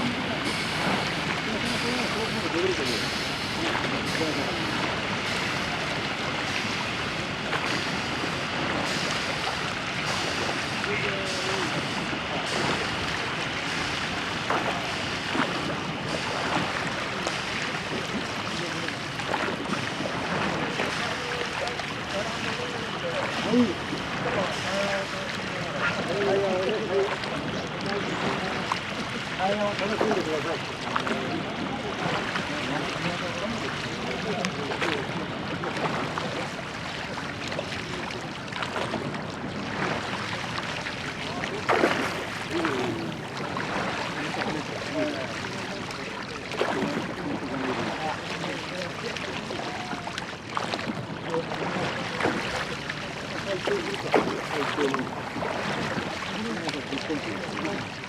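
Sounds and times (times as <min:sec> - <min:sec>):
faint voices: 0:00.0 - 0:58.0
rushing water: 0:00.0 - 0:58.0
wind: 0:00.0 - 0:58.0.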